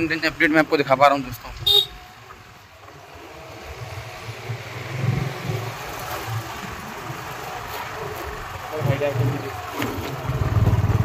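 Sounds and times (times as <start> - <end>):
motor engine rumbling: 0.0 - 11.0.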